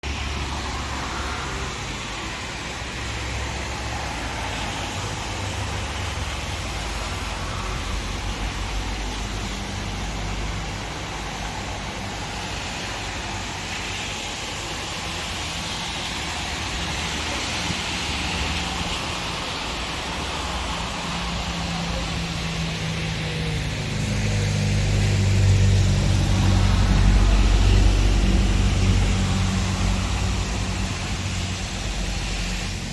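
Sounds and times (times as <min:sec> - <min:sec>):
steady rain: 0:00.0 - 0:32.9
vehicle engine humming: 0:00.0 - 0:32.9
wind: 0:00.0 - 0:32.9.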